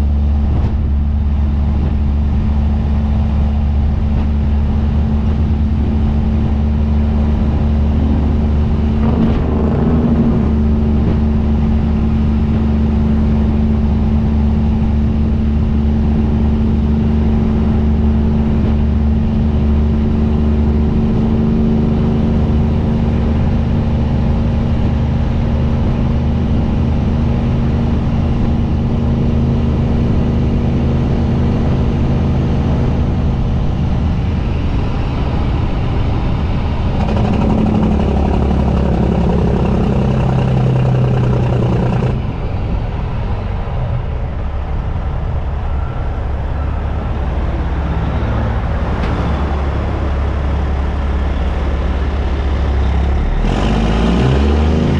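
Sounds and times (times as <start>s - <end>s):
diesel truck engine running: 0.0s - 54.9s
road noise: 0.0s - 54.9s
wind noise: 0.0s - 54.9s.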